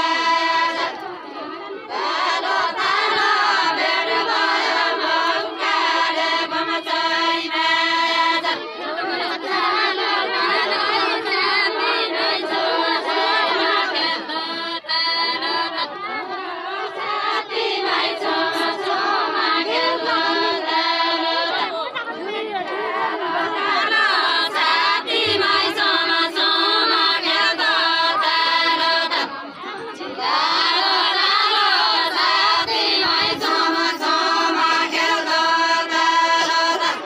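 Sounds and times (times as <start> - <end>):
women singing together: 0.0 - 37.0.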